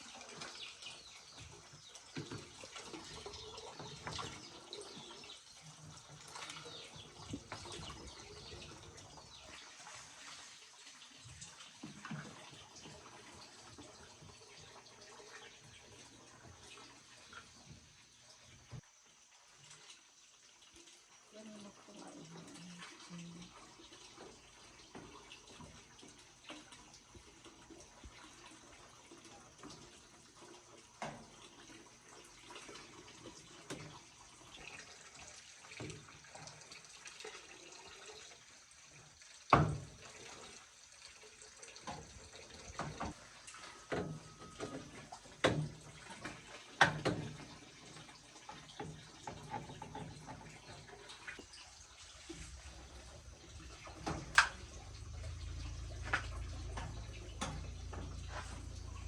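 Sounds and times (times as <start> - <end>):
water running and trickling: 0.0 - 59.0.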